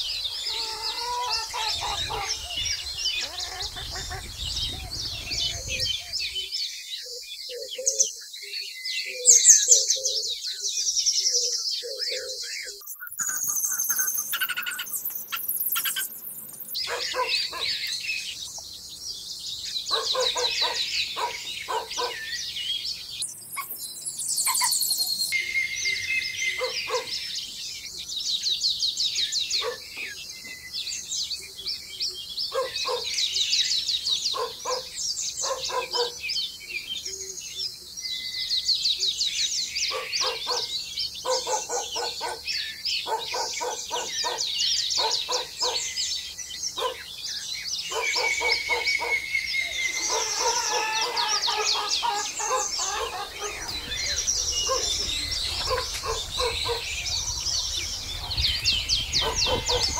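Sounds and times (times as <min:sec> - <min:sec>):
birds chirping with high trills: 0:00.0 - 0:59.9.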